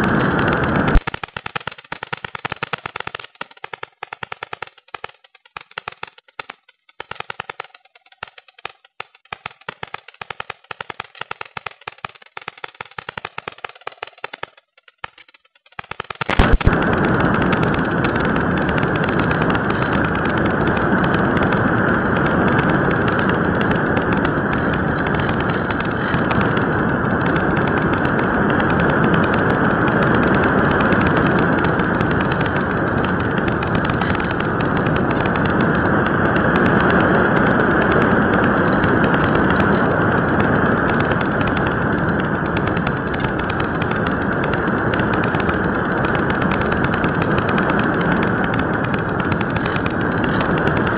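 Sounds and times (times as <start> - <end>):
rush of air over glider: 0.0 - 50.9.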